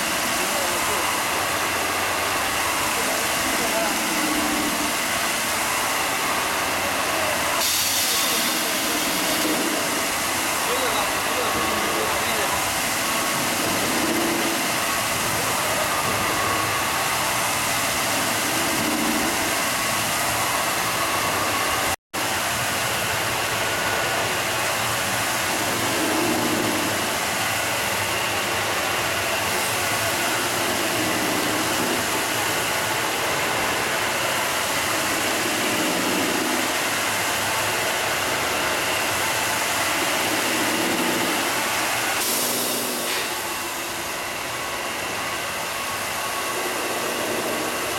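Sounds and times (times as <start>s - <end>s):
polishing machine whirring: 0.0s - 22.0s, 22.9s - 47.9s.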